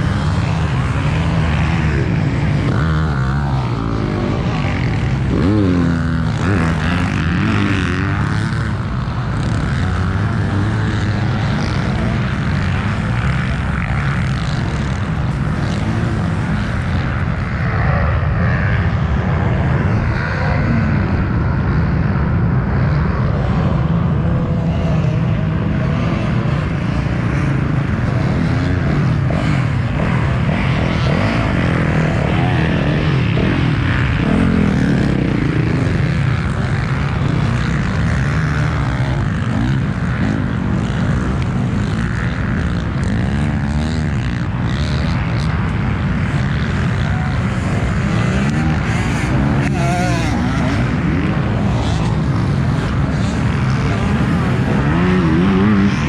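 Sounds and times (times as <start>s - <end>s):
dirt bike engine revving: 0.0s - 17.5s, 24.3s - 56.0s.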